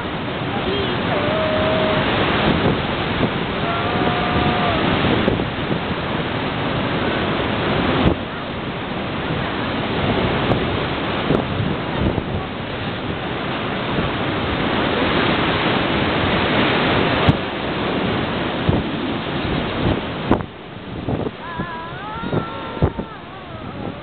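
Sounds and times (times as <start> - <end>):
heavy waves breaking: 0.0 - 24.0
wind: 0.0 - 24.0.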